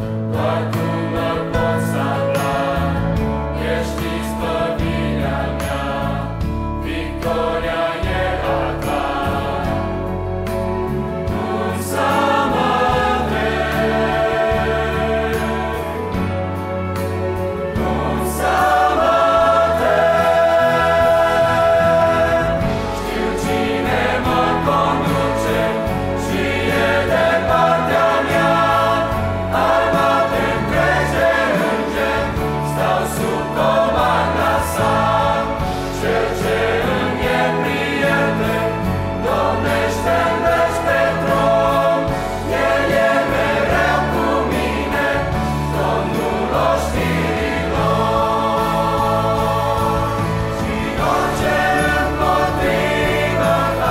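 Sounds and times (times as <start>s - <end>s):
mixed choir singing a hymn: 0.0s - 53.9s.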